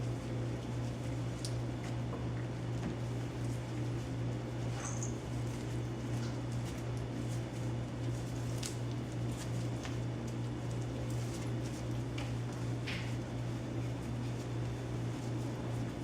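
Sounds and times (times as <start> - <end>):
steady low hum: 0.0 - 16.0
puppies clicking and scuffling: 0.6 - 16.0.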